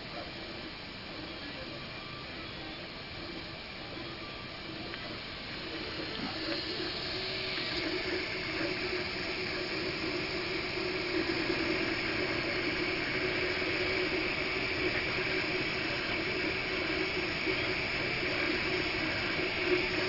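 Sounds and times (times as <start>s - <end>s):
printer motors and fans whirring: 0.0s - 20.0s.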